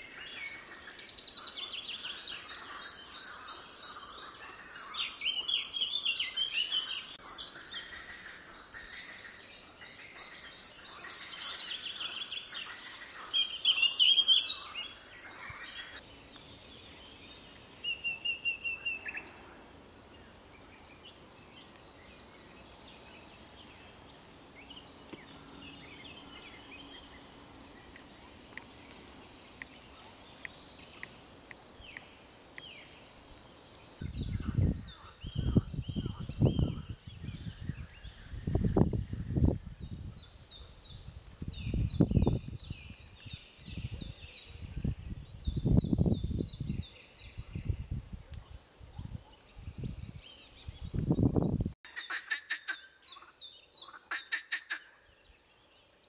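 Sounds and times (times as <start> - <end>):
songbirds chirping and warbling: 0.0 - 56.0.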